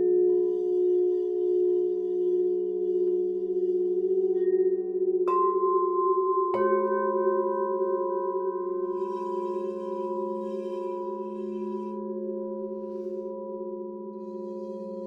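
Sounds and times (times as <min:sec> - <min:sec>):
singing bowls ringing: 0:00.0 - 0:15.0
bowl being struck: 0:02.8 - 0:15.0.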